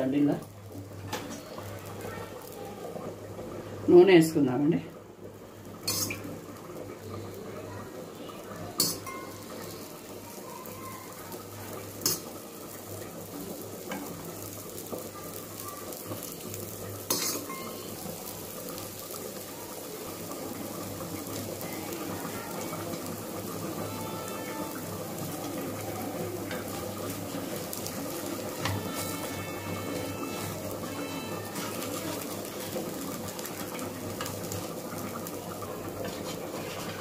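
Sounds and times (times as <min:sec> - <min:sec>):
food sizzling on griddle: 0:00.0 - 0:37.0.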